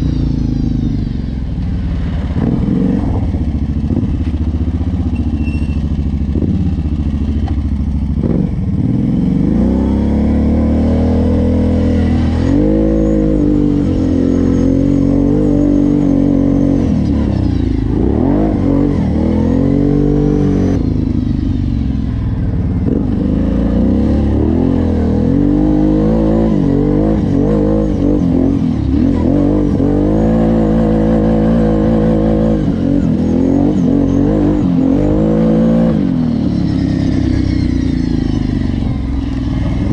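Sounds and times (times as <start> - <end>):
off-road vehicle engine revving: 2.0 - 39.9.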